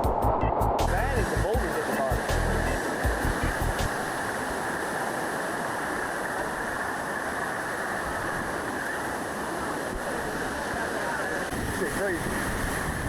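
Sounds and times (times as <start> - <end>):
water rushing down falls: 1.1 - 13.0.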